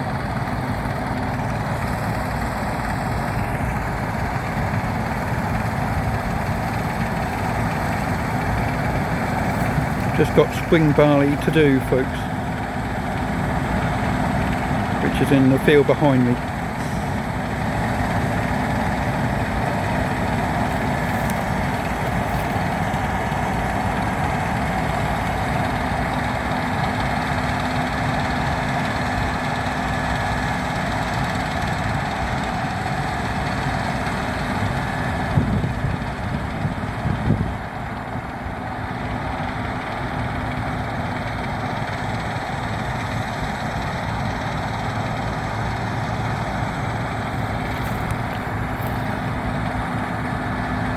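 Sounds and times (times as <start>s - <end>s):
combine harvester drone: 0.0s - 50.9s.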